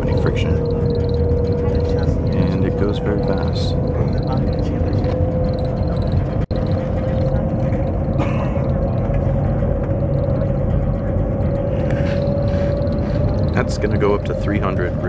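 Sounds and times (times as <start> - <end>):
rising whine: 0.0 - 15.0
train cabin rumble: 0.0 - 15.0.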